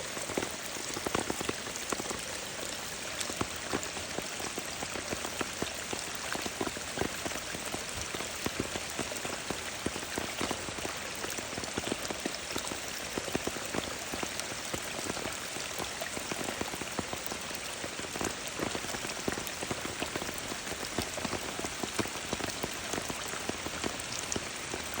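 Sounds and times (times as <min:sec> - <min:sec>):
rainwater runoff spattering: 0:00.0 - 0:25.0.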